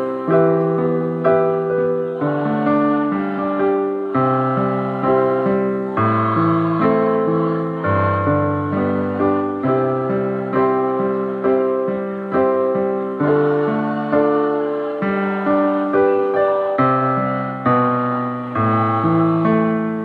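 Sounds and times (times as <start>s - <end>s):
keyboard playing sustained chords: 0.0s - 20.0s.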